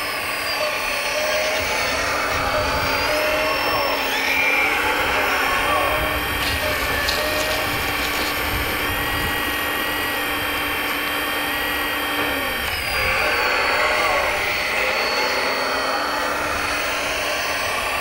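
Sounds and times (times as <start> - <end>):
hydraulic pump whining: 0.0 - 18.0.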